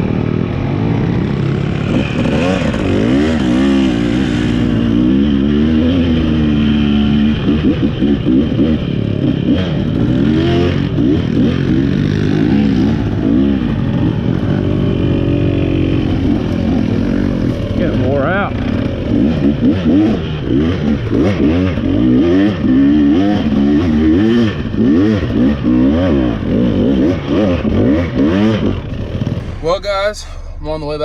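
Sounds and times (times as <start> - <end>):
dirt bike engine revving: 1.8 - 28.7.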